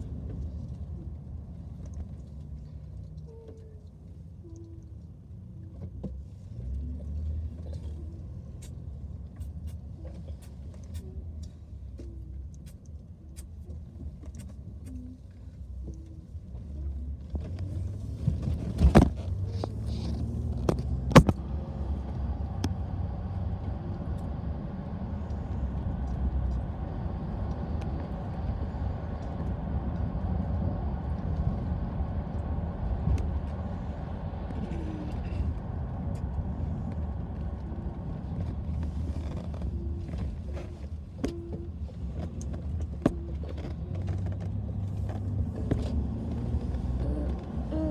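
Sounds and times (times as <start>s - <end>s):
car engine: 0.0s - 47.9s
road noise: 0.0s - 47.9s.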